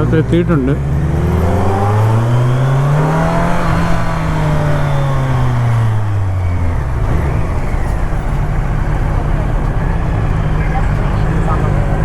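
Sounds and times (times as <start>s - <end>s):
motorcycle engine running: 0.0s - 12.0s
wind noise: 0.8s - 11.2s.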